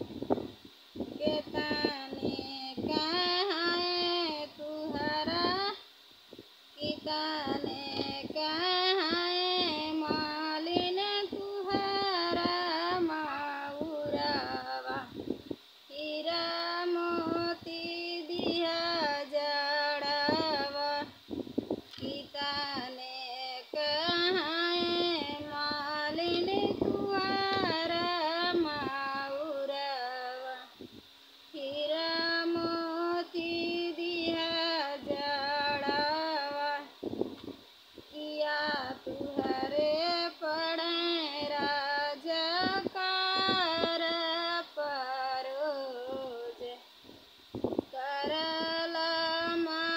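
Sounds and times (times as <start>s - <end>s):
woman singing unaccompanied: 0.0s - 37.2s, 38.0s - 47.0s, 47.6s - 49.9s.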